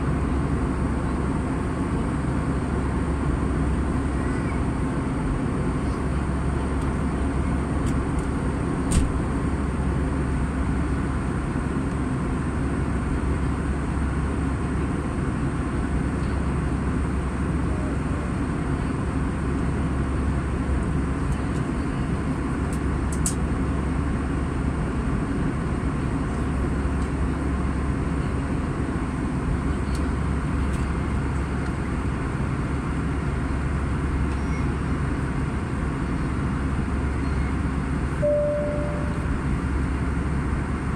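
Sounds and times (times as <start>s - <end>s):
airliner cabin roar: 0.0s - 40.9s.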